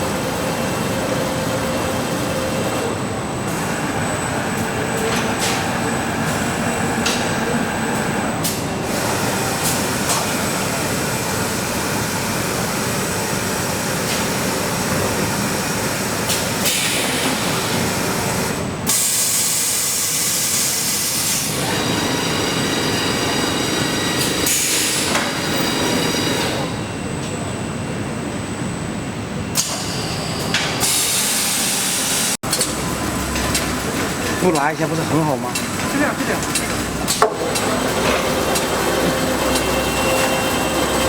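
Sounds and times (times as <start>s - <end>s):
factory machinery running: 0.0s - 41.0s.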